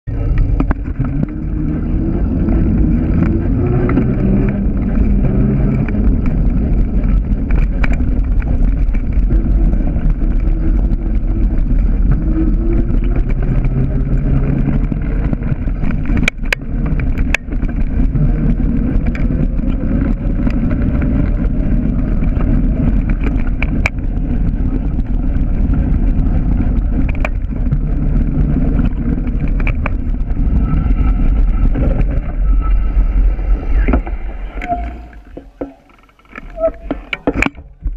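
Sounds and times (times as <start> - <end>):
bicycle tyre rumble: 0.0 - 37.9
low wavering hum: 0.0 - 37.9
wind buffeting microphone: 0.0 - 37.9.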